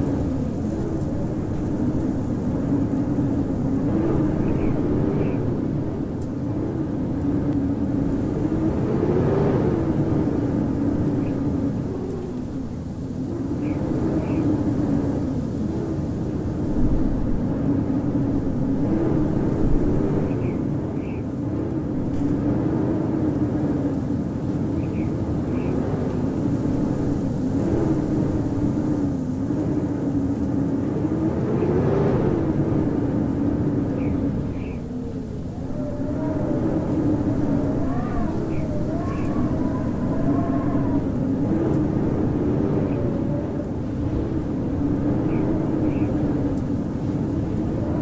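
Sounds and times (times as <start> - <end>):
howling wind: 0.0 - 48.0.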